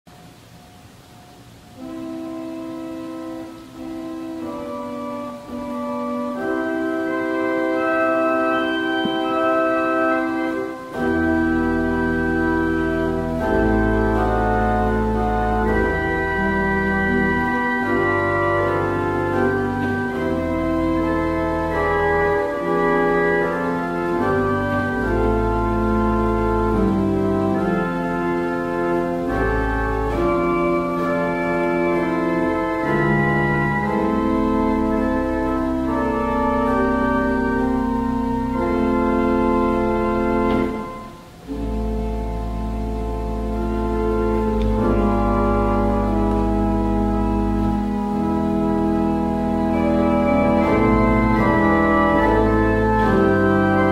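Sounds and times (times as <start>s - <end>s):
pipe organ chords: 0.2s - 53.9s.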